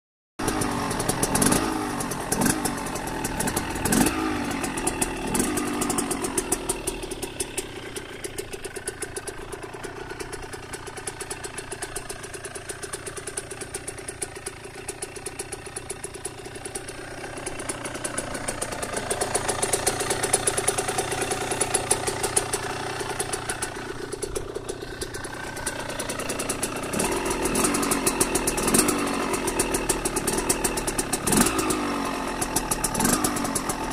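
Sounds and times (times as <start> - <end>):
two-stroke engine revving and idling: 0.4 - 33.9.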